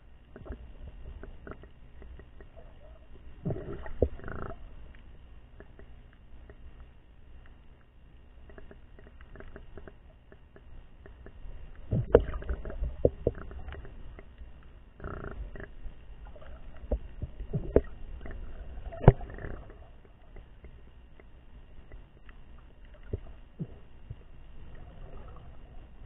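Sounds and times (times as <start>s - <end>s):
muffled underwater rumbling wash: 0.0s - 26.0s
underwater knocks and clicks: 0.3s - 5.0s, 5.6s - 6.8s, 8.4s - 25.6s.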